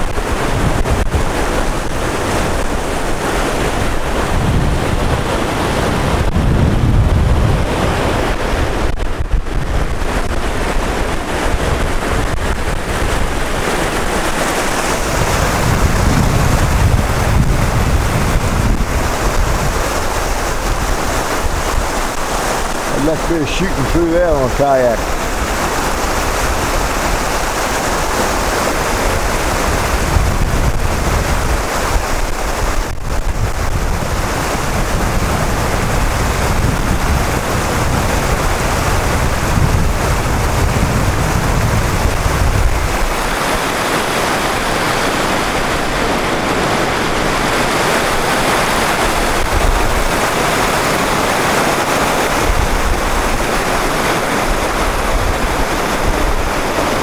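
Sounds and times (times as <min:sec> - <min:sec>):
river rapids rushing: 0:00.0 - 0:57.0
wind on microphone: 0:00.0 - 0:57.0.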